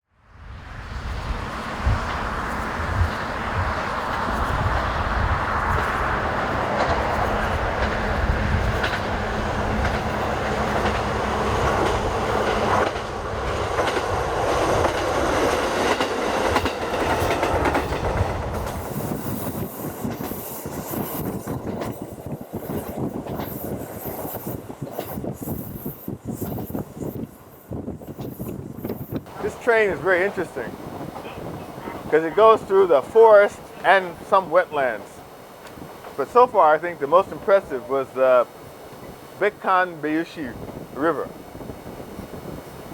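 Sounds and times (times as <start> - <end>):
diesel railcar running on track: 0.2 - 42.9.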